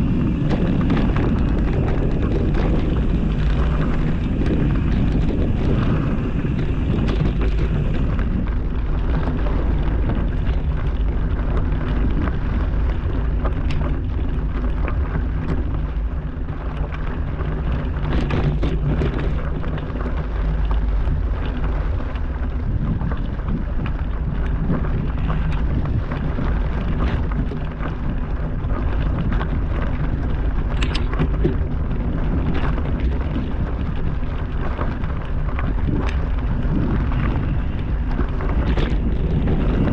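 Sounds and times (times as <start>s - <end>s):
clicks and knocks from rough trail: 0.0s - 39.9s
wind buffeting microphone: 0.0s - 39.9s.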